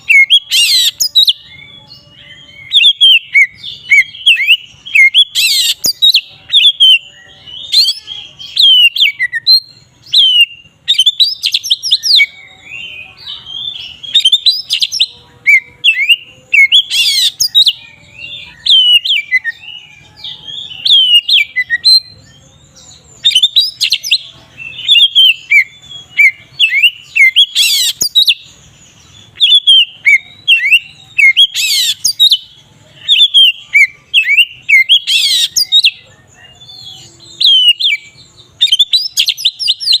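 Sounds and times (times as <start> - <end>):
bird singing whistled phrases: 0.0 - 22.4, 23.2 - 40.0.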